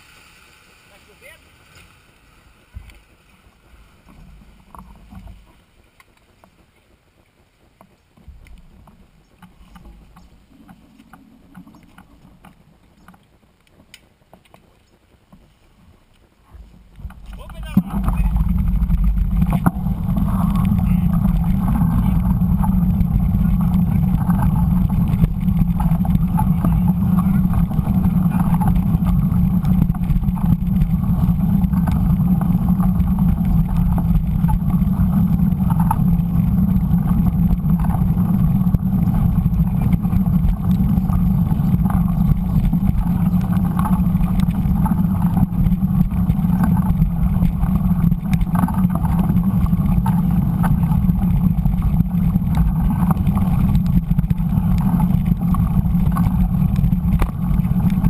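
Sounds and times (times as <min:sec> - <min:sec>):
bike tyres rolling on dirt: 0:00.0 - 0:58.0
wind buffeting camera: 0:06.4 - 0:58.0.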